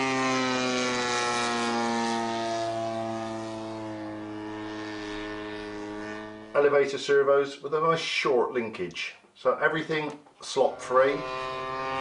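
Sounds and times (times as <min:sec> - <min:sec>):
model aircraft engine and propeller: 0:00.0 - 0:07.9, 0:09.8 - 0:12.0.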